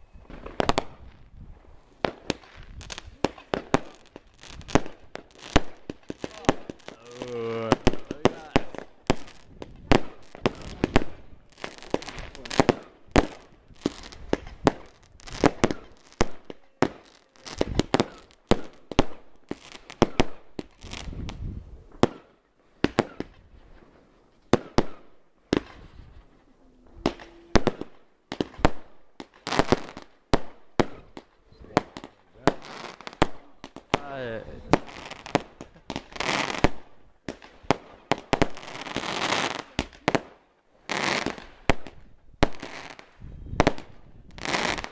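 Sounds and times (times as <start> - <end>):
fireworks bangs: 0.0 - 23.9, 26.9 - 44.9.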